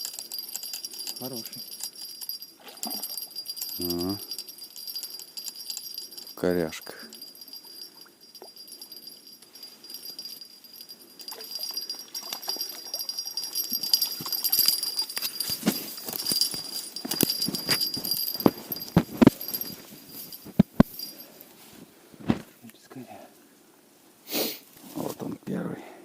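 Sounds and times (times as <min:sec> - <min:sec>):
high-pitched jingling: 0:00.0 - 0:21.8
rustling and handling noises: 0:00.0 - 0:22.7.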